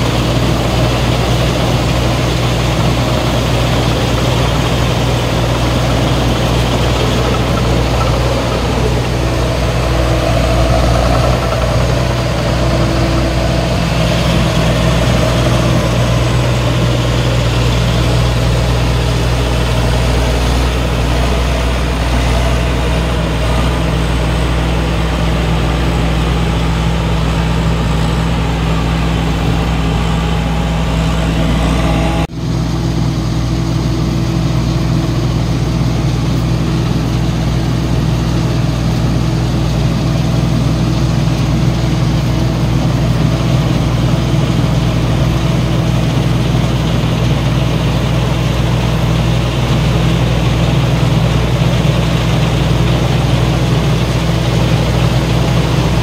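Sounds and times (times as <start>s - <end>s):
combine harvester engine droning: 0.0s - 56.0s.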